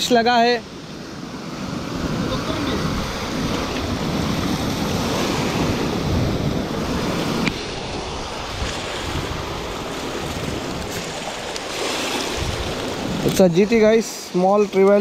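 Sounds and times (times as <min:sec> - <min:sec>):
surf washing over rocks: 0:00.0 - 0:15.0
wind buffeting microphone: 0:00.8 - 0:14.1.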